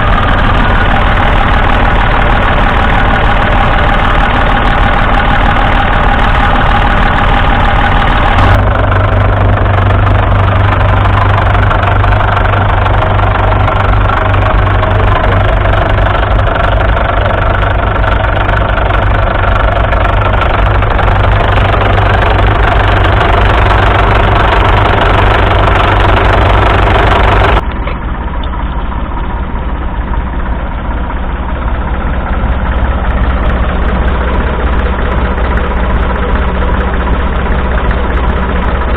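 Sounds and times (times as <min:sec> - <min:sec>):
diesel tractor engines running: 0:00.0 - 0:38.9.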